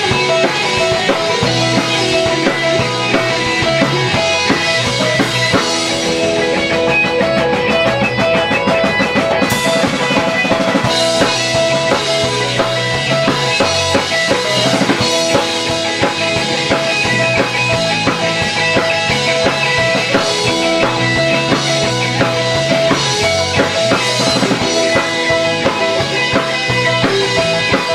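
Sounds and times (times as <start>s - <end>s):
live rock band playing: 0.0s - 27.9s
rapid drum strokes: 0.0s - 27.9s.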